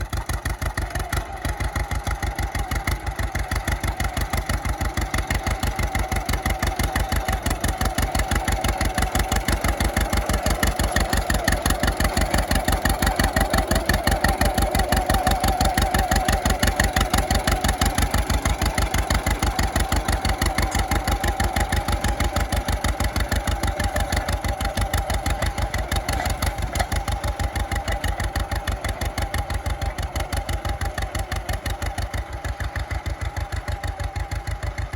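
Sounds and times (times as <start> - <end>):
tractor engine popping exhaust: 0.0 - 34.9.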